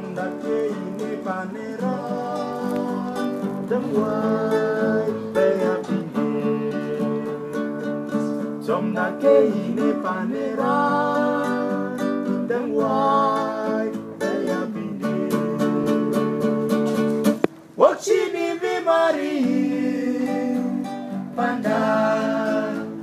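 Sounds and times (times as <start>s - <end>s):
man singing long notes: 0.0s - 16.6s, 17.8s - 23.0s
acoustic guitar strumming: 0.0s - 17.9s, 19.4s - 23.0s.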